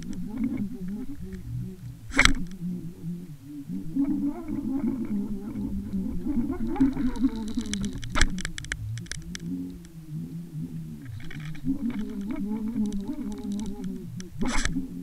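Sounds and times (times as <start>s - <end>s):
muffled underwater hum: 0.0s - 15.0s
sharp underwater clicks: 0.0s - 15.0s.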